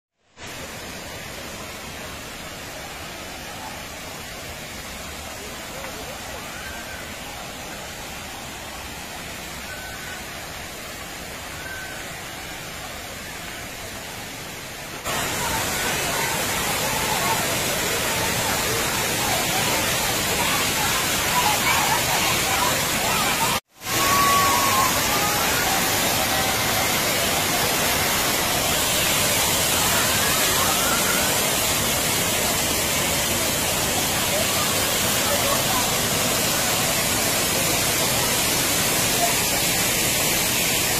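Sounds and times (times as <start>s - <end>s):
waterfall rushing: 0.4s - 40.9s.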